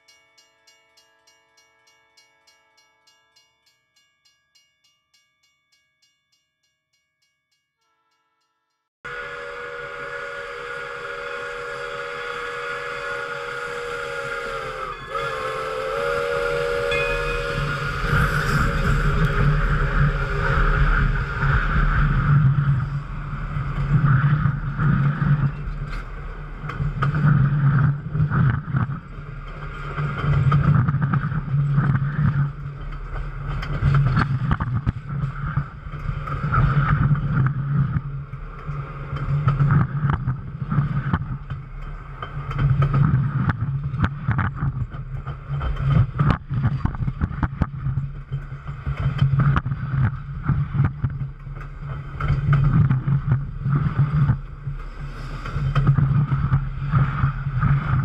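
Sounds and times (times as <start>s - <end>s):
train wheels rumbling on rails: 9.1s - 58.0s.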